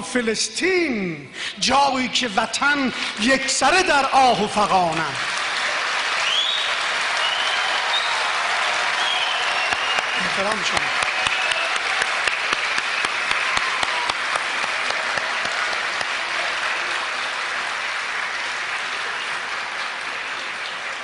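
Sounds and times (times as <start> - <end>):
audience applauding: 3.1 - 21.0.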